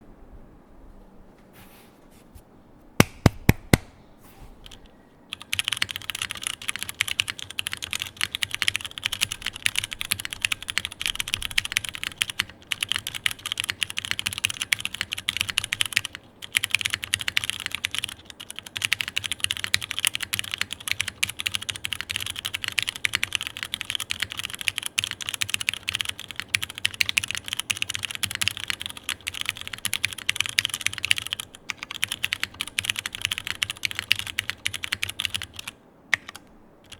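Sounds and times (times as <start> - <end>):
typing on mechanical keyboard: 4.6 - 36.9.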